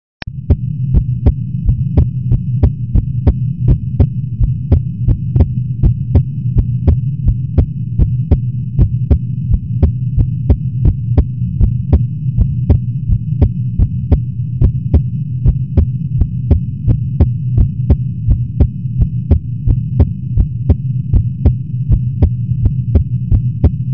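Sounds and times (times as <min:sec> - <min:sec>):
amplified heartbeat: 0:00.2 - 0:23.9.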